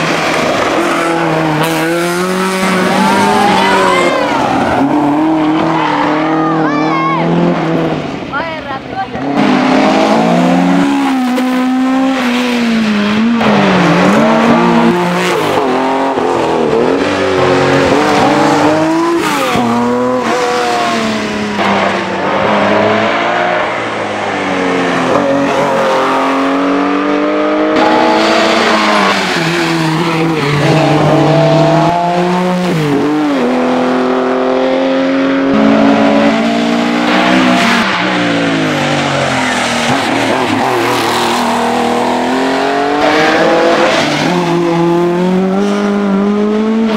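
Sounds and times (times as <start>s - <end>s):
rally car engine revving: 0.0s - 46.9s.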